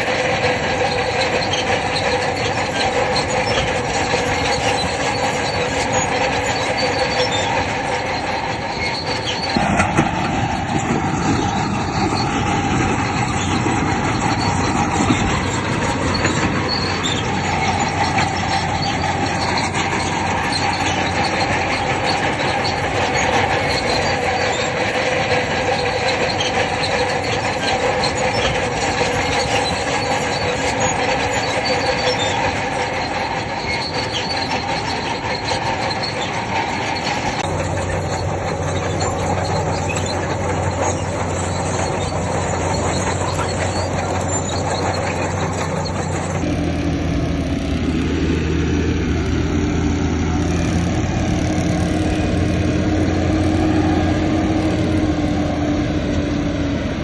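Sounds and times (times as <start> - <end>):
bulldozer engine running: 0.0 - 57.0
crawler tracks squealing and clanking: 0.0 - 57.0
low engine hum: 0.0 - 57.0.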